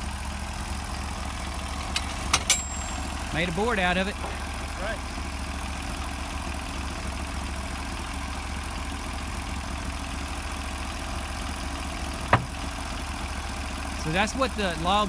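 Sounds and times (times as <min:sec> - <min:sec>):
sawmill engine idling: 0:00.0 - 0:15.0.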